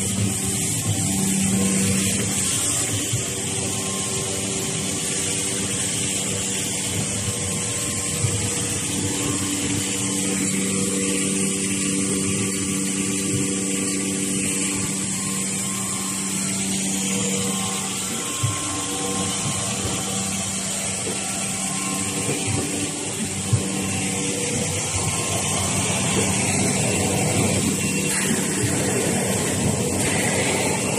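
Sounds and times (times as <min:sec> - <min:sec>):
machinery humming: 0:00.0 - 0:30.9.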